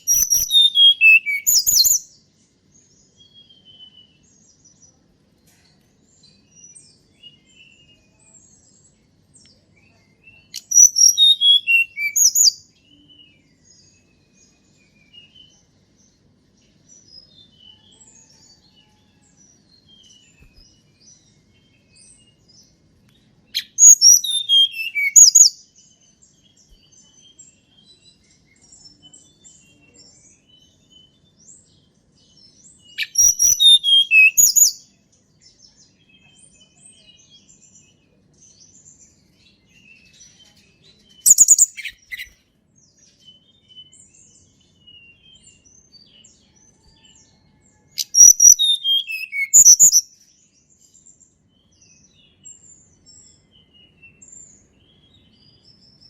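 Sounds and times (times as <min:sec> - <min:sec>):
faint bird chirps: 0:00.0 - 0:56.0
songbird singing falling phrases: 0:00.0 - 0:56.0.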